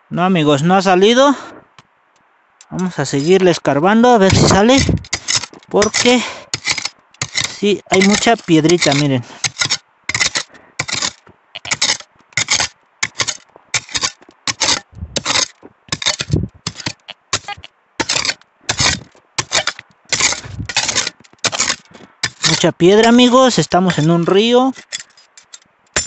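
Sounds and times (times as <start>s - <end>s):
digging tool scraping stony soil: 2.6s - 26.0s.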